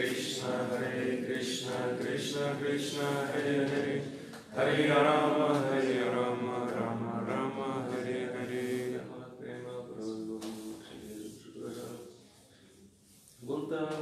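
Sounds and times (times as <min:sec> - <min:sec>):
man chanting prayers: 0:00.0 - 0:12.4, 0:13.4 - 0:14.0.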